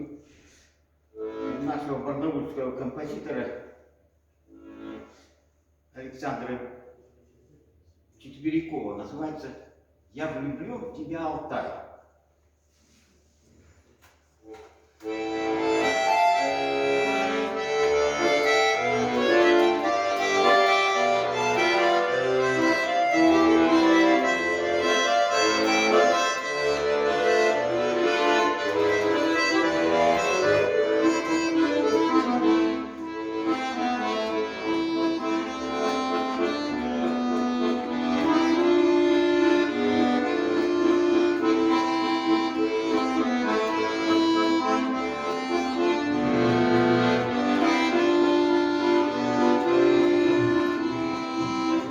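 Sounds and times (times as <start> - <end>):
accordion playing: 0.0 - 5.9, 14.5 - 51.9.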